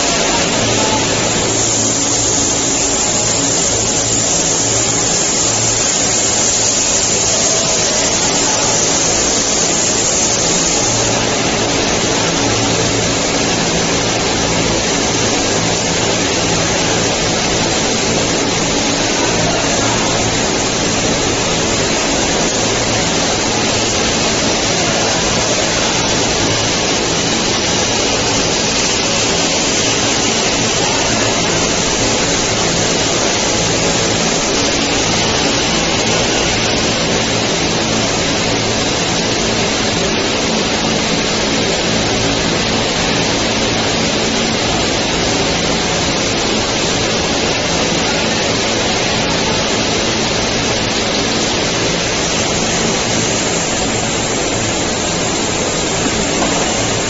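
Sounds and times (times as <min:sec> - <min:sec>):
machine rushing noise: 0:00.0 - 0:57.0.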